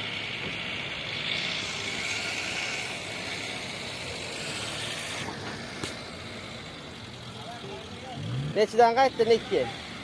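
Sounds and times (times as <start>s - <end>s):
vehicles hissing and rumbling: 0.0s - 10.0s.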